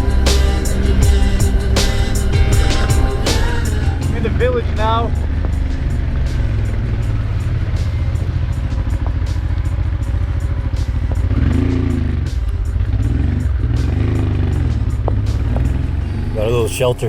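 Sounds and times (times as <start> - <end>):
background music: 0.0 - 17.0
motorcycle engine running: 0.0 - 17.0.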